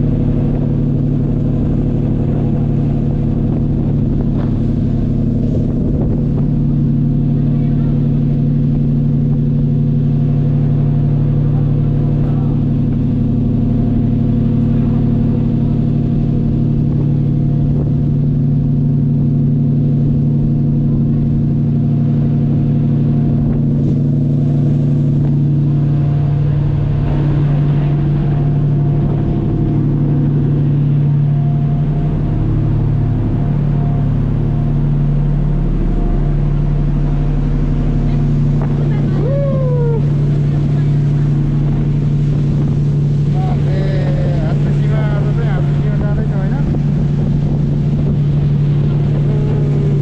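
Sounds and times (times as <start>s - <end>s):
churning water: 0.0s - 50.0s
ferry engines droning: 0.0s - 50.0s.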